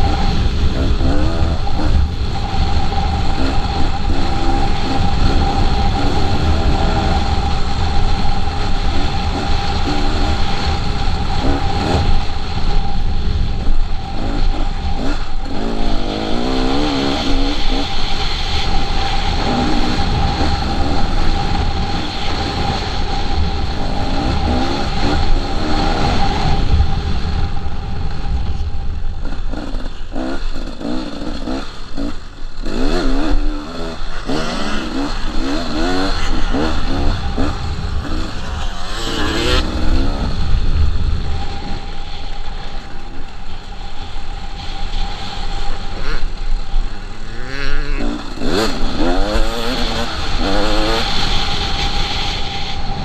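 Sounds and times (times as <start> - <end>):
dirt bike engine revving: 0.0 - 27.7, 28.3 - 53.0
steady rush of noise: 0.0 - 53.0.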